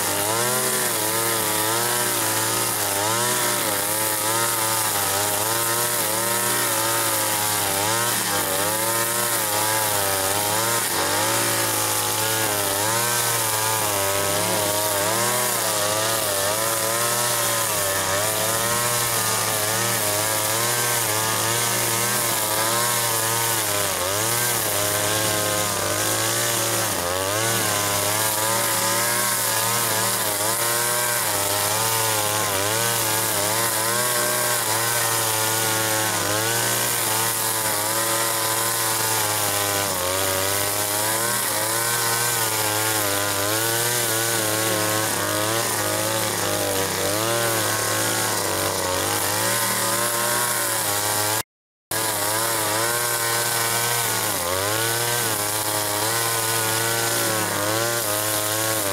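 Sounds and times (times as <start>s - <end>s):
chainsaw running: 0.0s - 58.9s.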